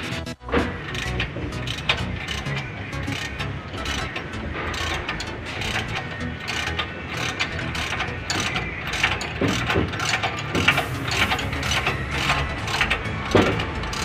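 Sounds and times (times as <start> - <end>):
ratchet wrench clicking: 0.5 - 14.0
sharp metal knocks: 0.5 - 14.0.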